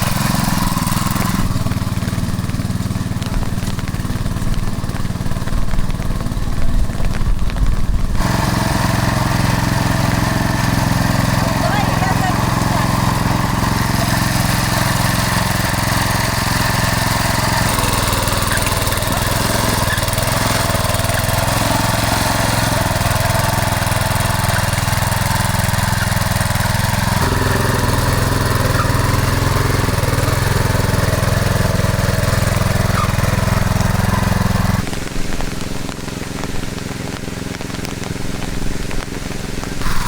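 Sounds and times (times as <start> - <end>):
walk-behind tractor engine running: 0.0 - 40.0.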